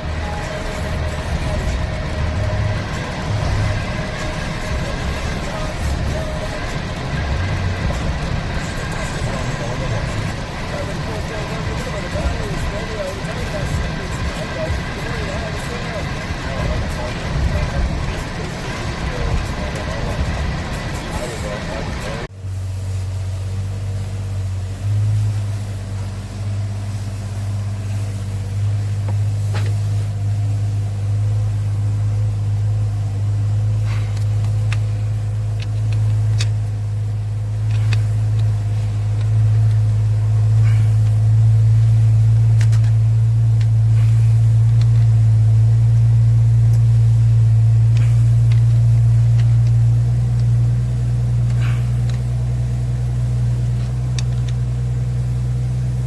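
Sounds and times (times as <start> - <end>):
engine idling: 0.0 - 56.0
engine ticking: 0.0 - 56.0.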